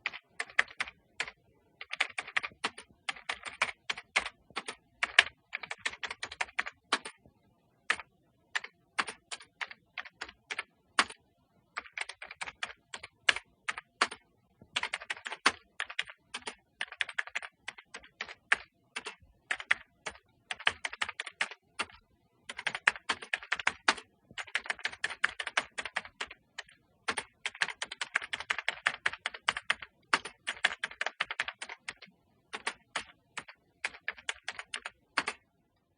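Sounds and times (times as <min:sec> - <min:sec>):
typing on keyboard: 0:00.0 - 0:35.5.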